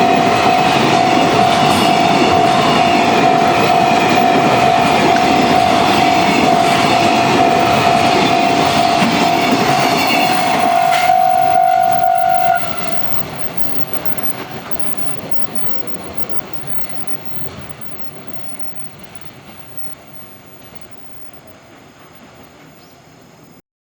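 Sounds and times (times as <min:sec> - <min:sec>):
level-crossing warning bell: 0:00.0 - 0:22.4
freight train wheels clattering: 0:00.0 - 0:22.8.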